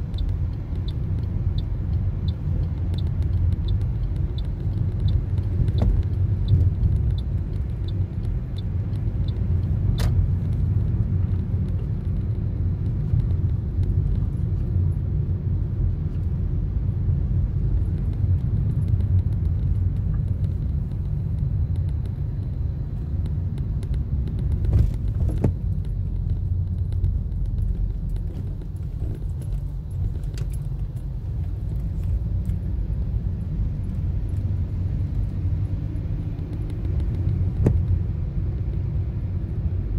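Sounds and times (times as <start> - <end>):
sharp clicks: 0.0 - 14.6, 17.6 - 32.7, 34.2 - 39.0
light regular ticking: 0.0 - 39.9
road and engine rumble in car cabin: 0.0 - 39.9.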